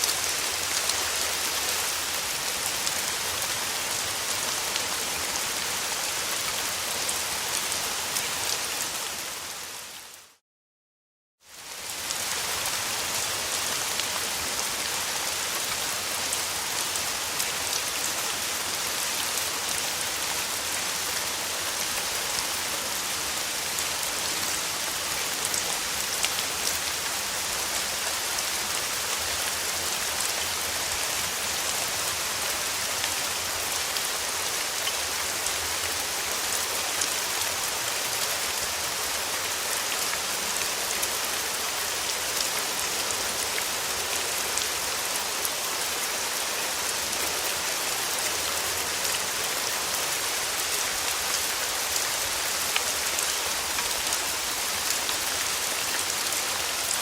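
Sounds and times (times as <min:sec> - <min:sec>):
rain falling on a surface: 0:00.0 - 0:10.4, 0:11.4 - 0:57.0.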